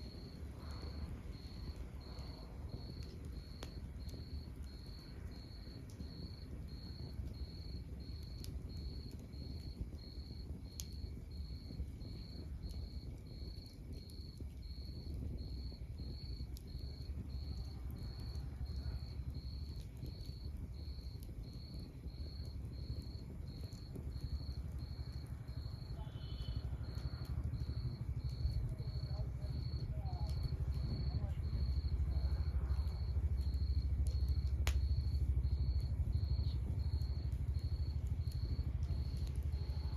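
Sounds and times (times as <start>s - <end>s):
cricket chirping: 0.0s - 39.9s
log fire crackling: 0.0s - 39.9s.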